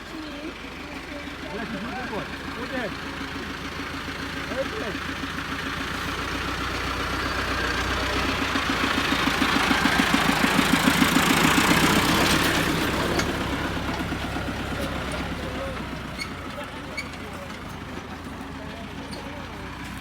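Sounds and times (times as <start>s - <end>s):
vehicle engine passing by: 0.0s - 20.0s.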